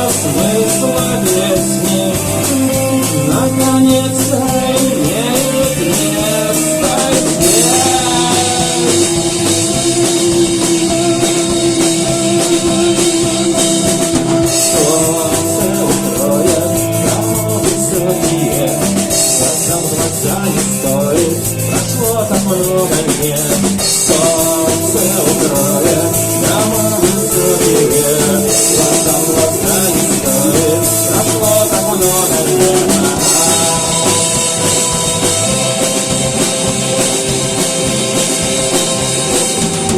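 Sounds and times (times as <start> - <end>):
held vocal line: 0.0 - 39.9
rock song: 0.0 - 39.9.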